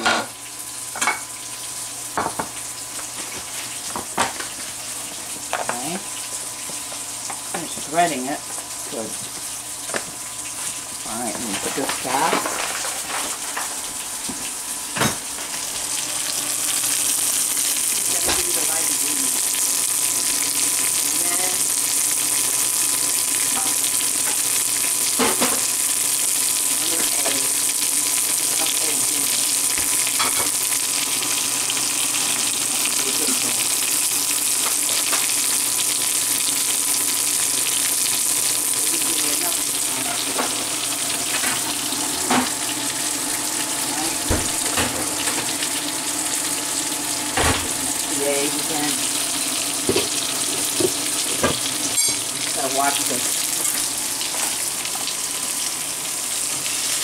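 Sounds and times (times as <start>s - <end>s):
fish frying in oil: 0.0s - 57.0s.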